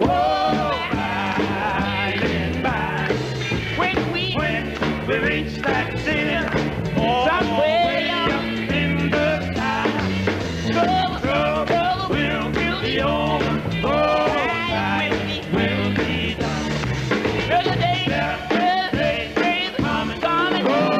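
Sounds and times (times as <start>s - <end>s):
low bass line: 0.0s - 18.1s
gospel quartet singing: 0.0s - 20.9s.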